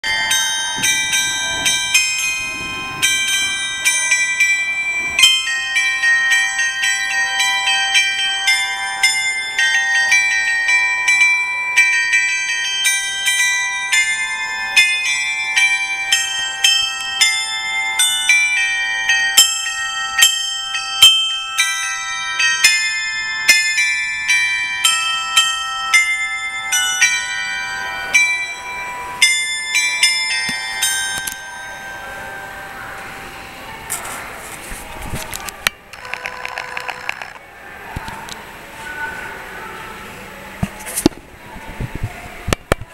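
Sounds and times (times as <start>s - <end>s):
clock tower bells chiming: 0.0s - 34.6s, 35.2s - 40.6s.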